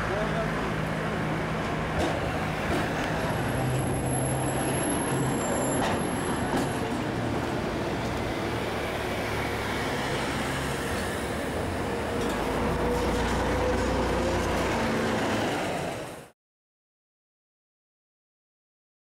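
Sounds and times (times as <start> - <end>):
streetcar rumbling past: 0.0 - 16.3
city traffic: 0.0 - 16.4.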